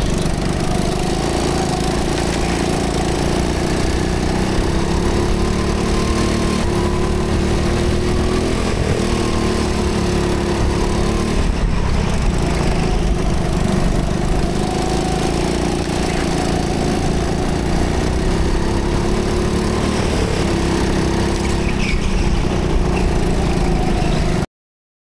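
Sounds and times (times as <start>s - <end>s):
go-kart engine running: 0.0s - 24.5s.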